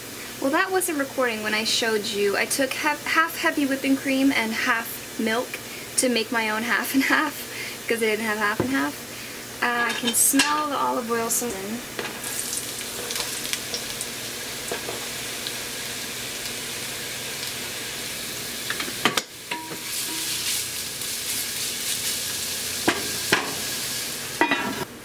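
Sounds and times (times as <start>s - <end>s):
onion sizzling in oil: 0.0s - 25.0s.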